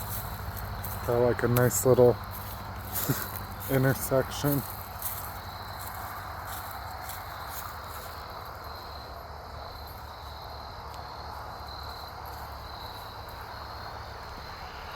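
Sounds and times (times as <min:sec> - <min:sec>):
outdoor background noise: 0:00.0 - 0:14.9.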